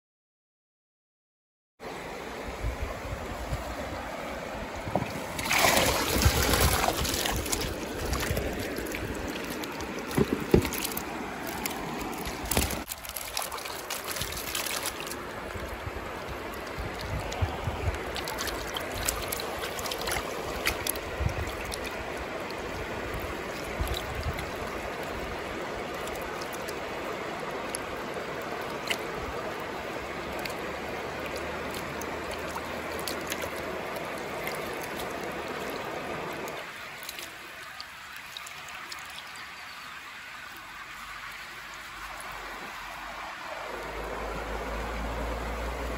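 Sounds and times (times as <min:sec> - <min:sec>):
creek water running: 0:01.8 - 0:45.9.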